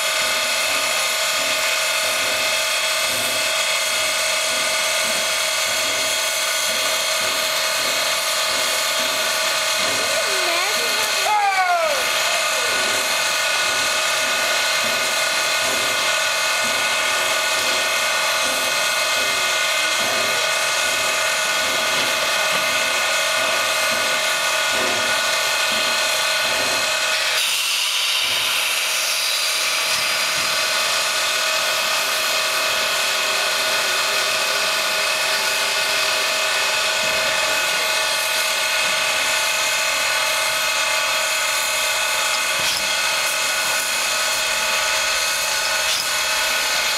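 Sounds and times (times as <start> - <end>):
steam locomotive hissing: 0.0 - 46.9.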